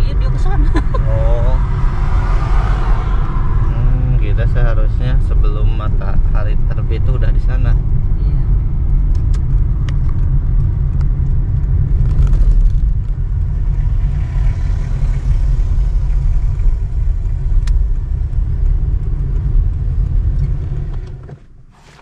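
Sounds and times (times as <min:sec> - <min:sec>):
car engine and tyres rumble: 0:00.0 - 0:22.0.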